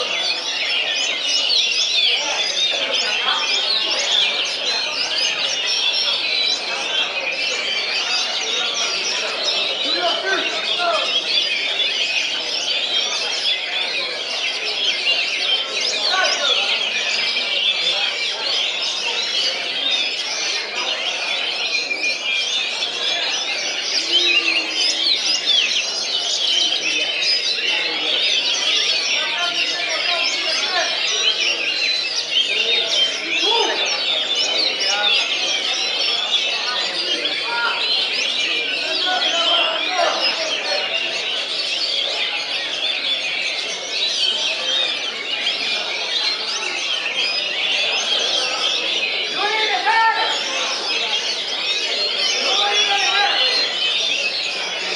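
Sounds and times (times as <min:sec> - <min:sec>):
many songbirds singing: 0:00.0 - 0:54.9.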